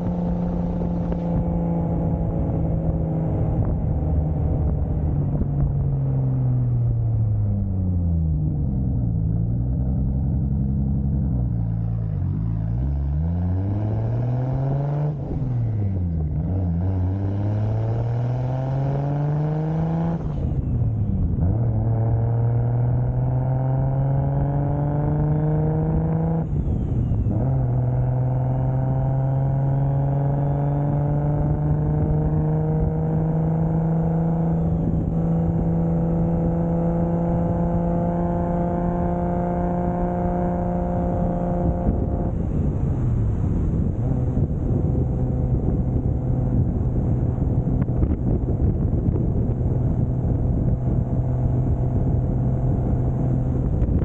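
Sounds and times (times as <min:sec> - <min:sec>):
car engine revving through gears: 0:00.0 - 0:04.8, 0:09.8 - 0:54.0.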